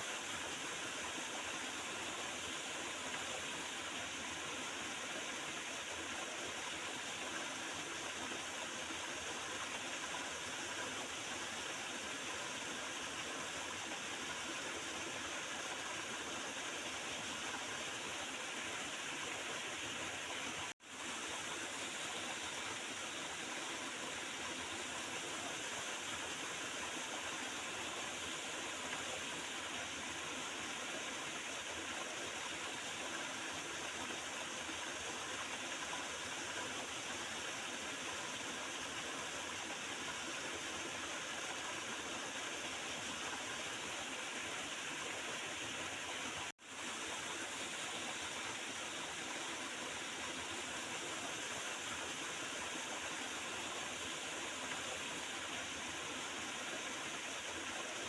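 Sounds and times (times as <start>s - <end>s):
small river flowing: 0.0s - 58.0s.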